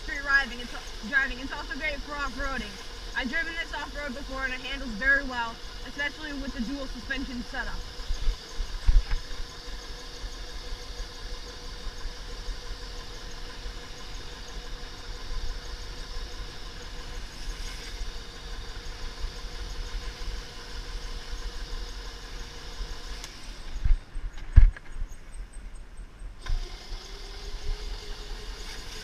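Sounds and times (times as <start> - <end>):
electric motor whining: 0.0 - 24.5, 26.4 - 29.0.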